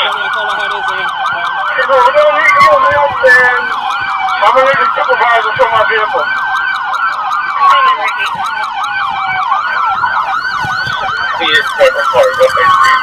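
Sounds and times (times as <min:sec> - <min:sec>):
police siren yelp: 0:00.0 - 0:13.0
siren wail: 0:00.0 - 0:13.0.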